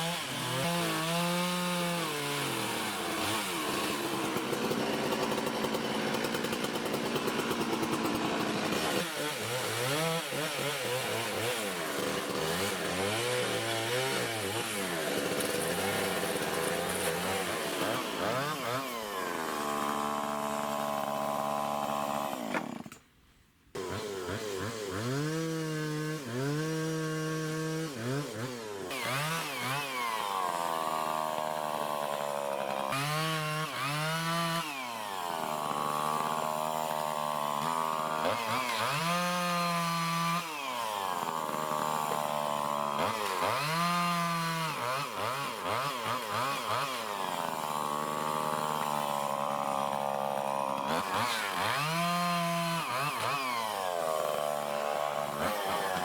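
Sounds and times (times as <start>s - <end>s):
chainsaw revving while cutting: 0.0s - 23.0s, 23.8s - 56.0s.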